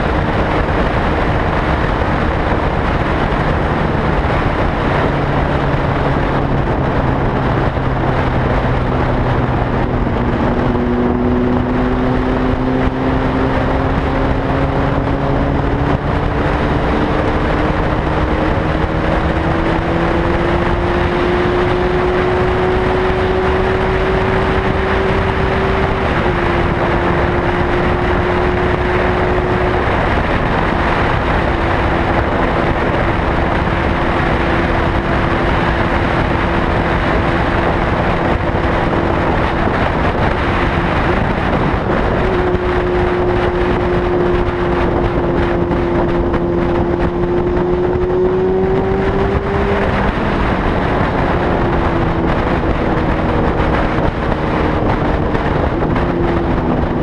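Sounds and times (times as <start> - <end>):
engine running: 0.0 - 57.0
loud rushing noise: 0.0 - 57.0.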